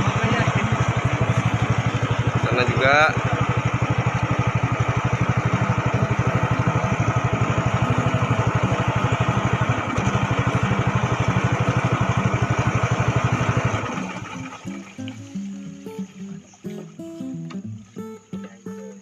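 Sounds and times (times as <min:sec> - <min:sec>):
small boat motor puttering: 0:00.0 - 0:19.0.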